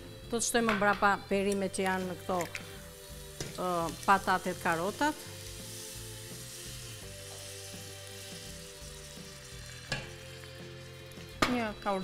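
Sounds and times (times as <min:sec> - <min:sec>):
onion sizzling in a pan: 0:01.3 - 0:12.0.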